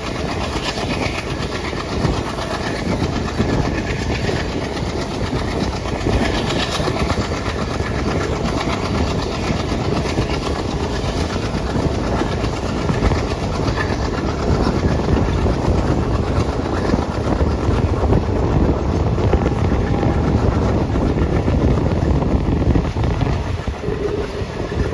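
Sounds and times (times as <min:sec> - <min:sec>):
diesel locomotive engine running: 0:00.0 - 0:24.9.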